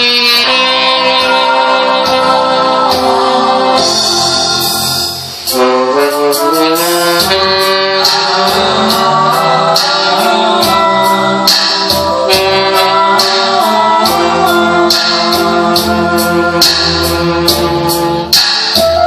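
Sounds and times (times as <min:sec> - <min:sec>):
band music with steady beat: 0:00.0 - 0:19.0.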